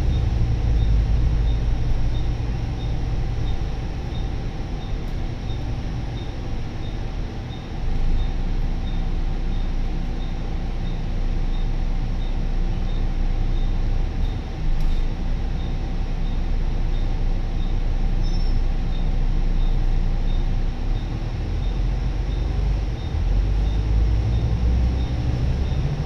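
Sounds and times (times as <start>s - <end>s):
diesel bus engine rumble: 0.0s - 26.0s
road noise: 0.0s - 26.0s.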